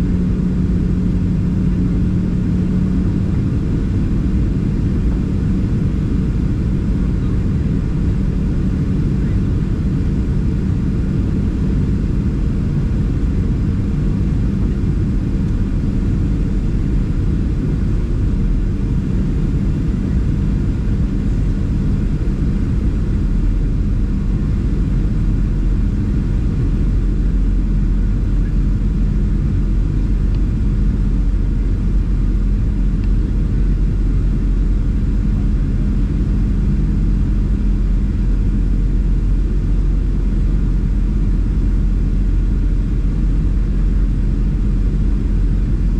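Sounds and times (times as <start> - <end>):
airplane cabin rumble: 0.0 - 45.9
low hum: 0.0 - 45.9.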